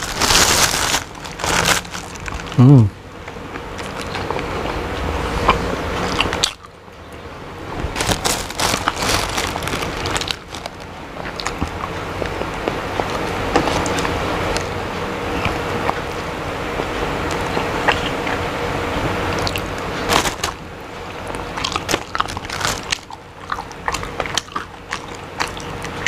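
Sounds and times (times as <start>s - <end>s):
man chewing crunchy food: 0.0s - 26.0s.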